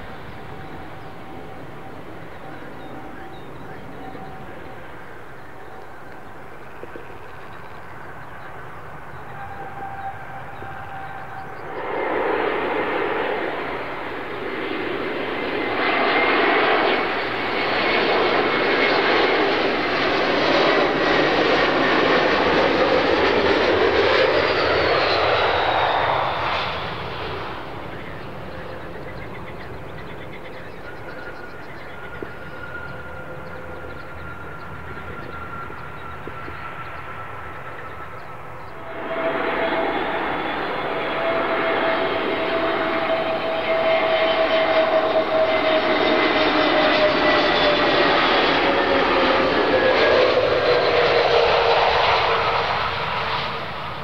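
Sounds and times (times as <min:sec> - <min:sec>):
airliner engines passing: 0:00.0 - 0:54.0.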